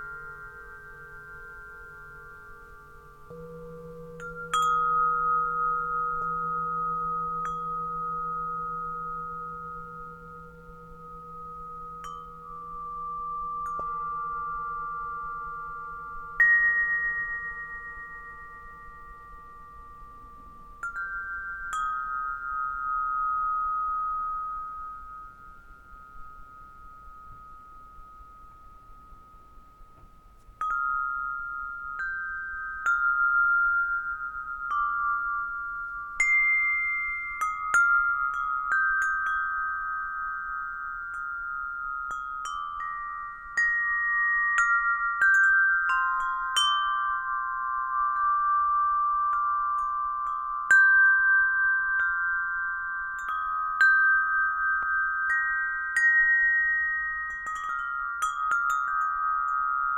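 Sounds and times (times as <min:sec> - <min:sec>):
metal wind chime ringing: 0:00.0 - 0:59.9.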